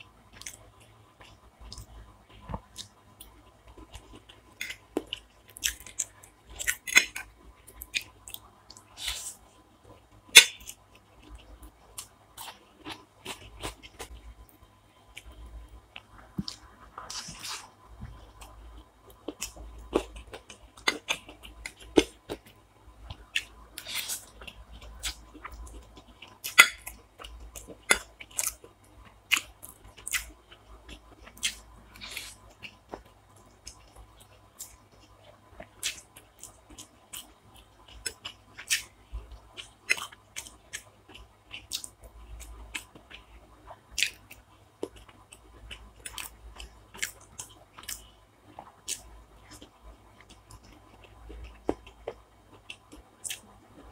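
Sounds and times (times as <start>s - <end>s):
person chewing food: 0.3s - 53.9s.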